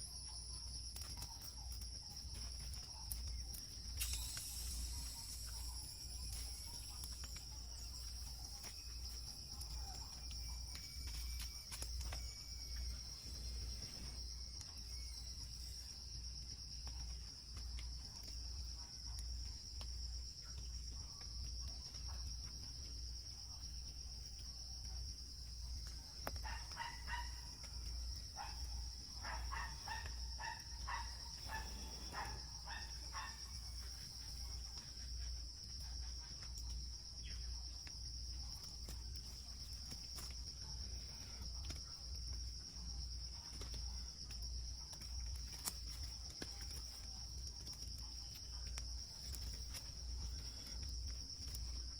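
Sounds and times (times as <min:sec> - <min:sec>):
insects droning: 0:00.0 - 0:51.9.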